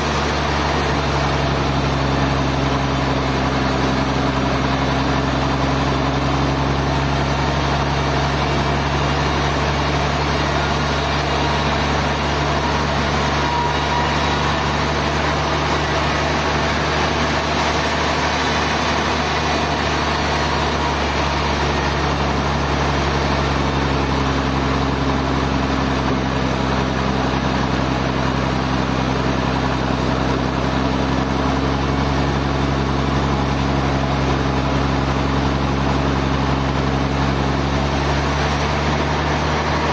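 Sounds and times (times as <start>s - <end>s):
low motor drone: 0.0s - 39.9s.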